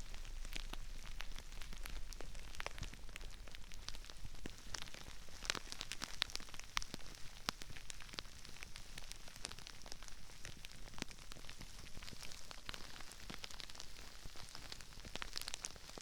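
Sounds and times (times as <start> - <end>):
rice grains pattering: 0.0 - 16.0.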